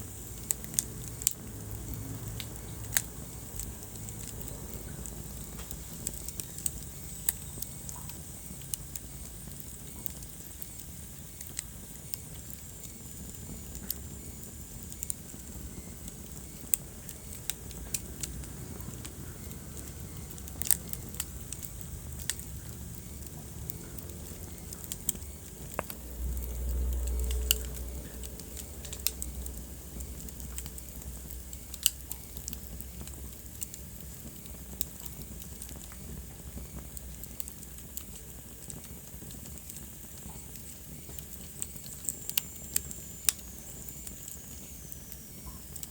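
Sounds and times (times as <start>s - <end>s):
low rumble of flames: 0.0s - 45.9s
wood fire crackling: 0.0s - 45.9s.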